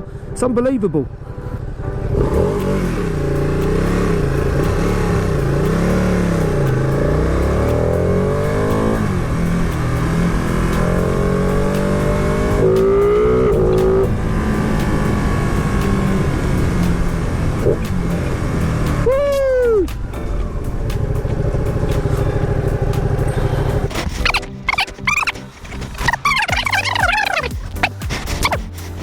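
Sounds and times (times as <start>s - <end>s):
motorcycle engine revving: 1.0s - 28.8s.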